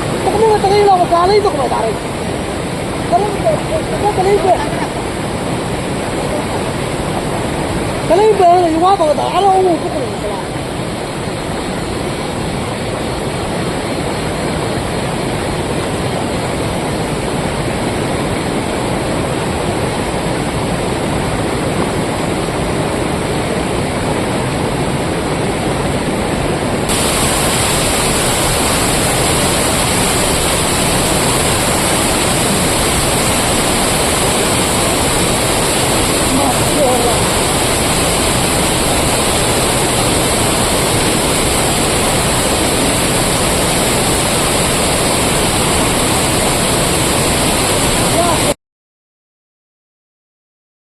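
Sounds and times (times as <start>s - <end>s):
fast-flowing water rushing: 0.0s - 48.6s.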